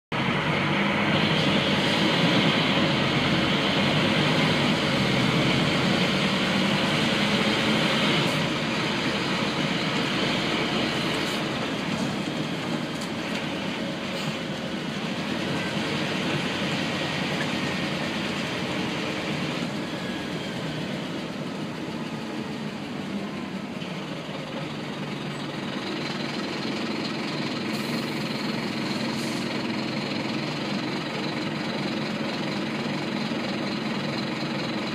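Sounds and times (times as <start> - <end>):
bus engine running: 0.1 - 34.9.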